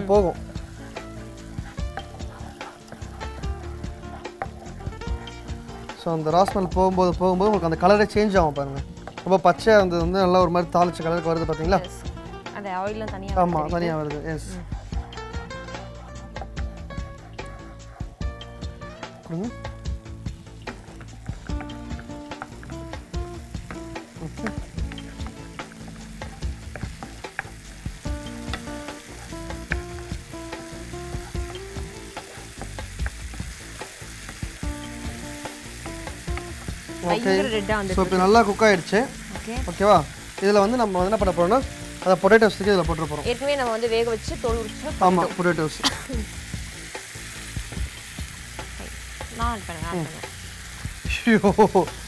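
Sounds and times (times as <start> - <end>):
paste sizzling in oil: 0.0 - 52.0
soft background music: 0.0 - 52.0.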